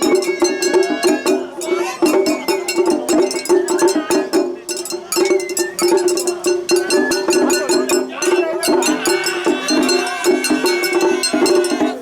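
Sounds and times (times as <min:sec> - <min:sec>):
bamboo flute melody: 0:00.0 - 0:12.0
rapid drumming: 0:00.0 - 0:12.0.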